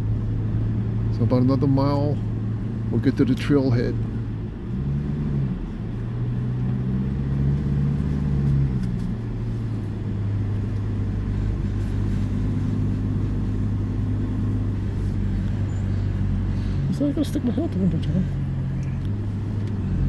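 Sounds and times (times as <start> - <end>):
car engine and tyre hum: 0.0 - 20.0.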